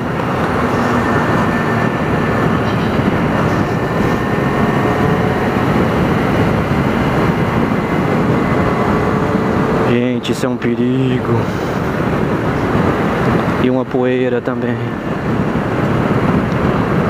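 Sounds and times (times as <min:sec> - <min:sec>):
motorcycle engine: 0:00.0 - 0:13.8
wind and road noise: 0:00.0 - 0:17.0.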